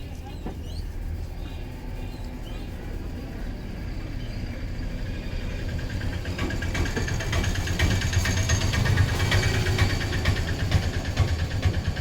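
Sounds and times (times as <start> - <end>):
low engine rumble: 0.0 - 12.0
rapid rattling clatter: 0.0 - 12.0.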